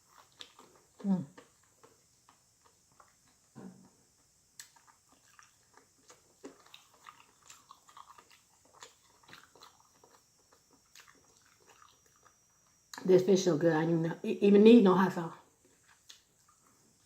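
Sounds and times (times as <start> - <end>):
chewing food: 0.0 - 13.1, 15.5 - 17.0.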